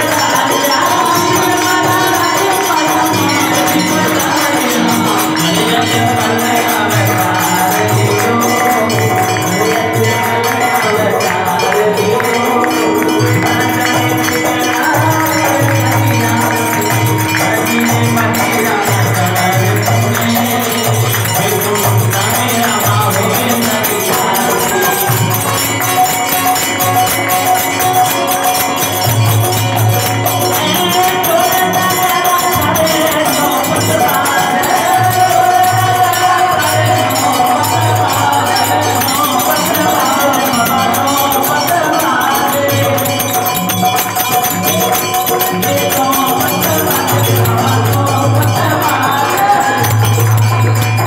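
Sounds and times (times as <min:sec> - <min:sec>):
jingling hand percussion: 0:00.0 - 0:51.0
sustained melody: 0:00.0 - 0:51.0.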